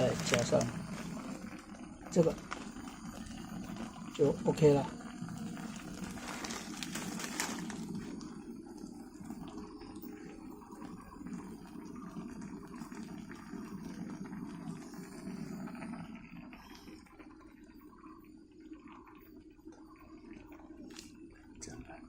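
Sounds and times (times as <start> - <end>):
soup bubbling in a pot: 0.0 - 22.0.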